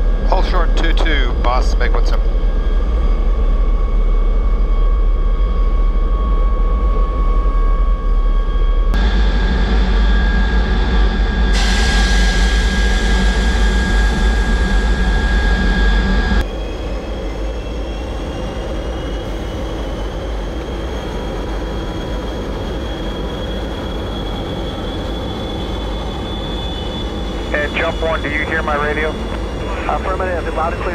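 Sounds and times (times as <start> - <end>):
jet engine running with high whine: 0.0 - 30.9.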